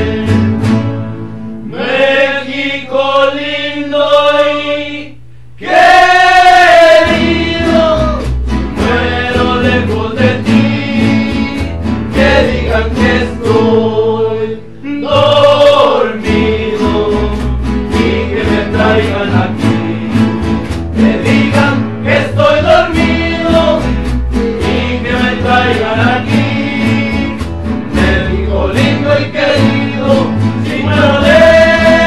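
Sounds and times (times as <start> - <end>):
men singing in harmony: 0.0 - 0.7, 1.7 - 32.0
plucked upright bass: 0.0 - 1.6, 6.9 - 14.4, 15.1 - 32.0
strummed acoustic guitars: 0.0 - 2.4, 5.6 - 32.0.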